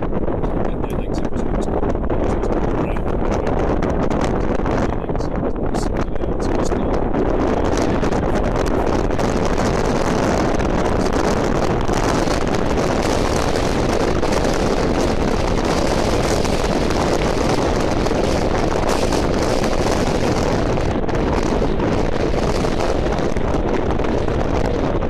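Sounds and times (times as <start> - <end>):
car road and wind noise: 0.0 - 25.0.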